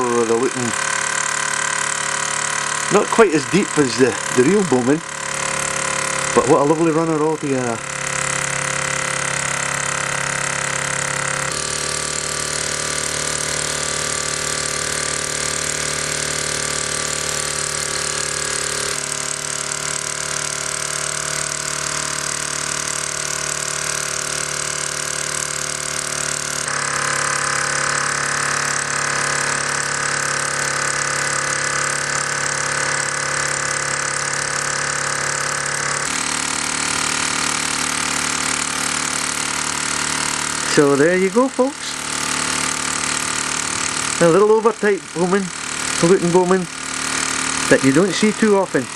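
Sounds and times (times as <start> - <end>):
toy steam engine purring: 0.0 - 48.9.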